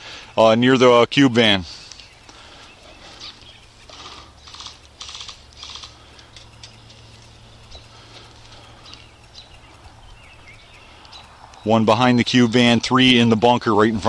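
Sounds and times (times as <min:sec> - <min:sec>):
faint clicks: 0:01.8 - 0:13.3.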